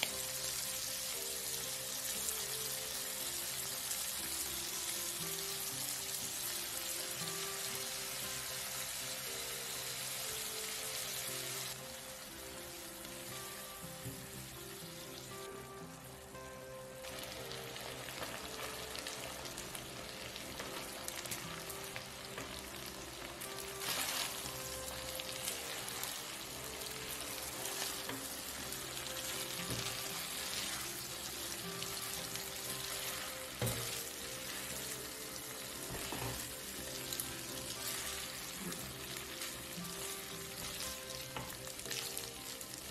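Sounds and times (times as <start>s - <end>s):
food sizzling in a pan: 0.0s - 42.9s.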